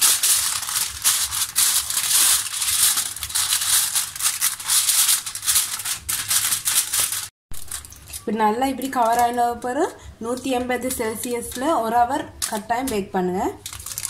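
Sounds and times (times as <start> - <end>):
aluminium foil crinkling: 0.0 - 14.0.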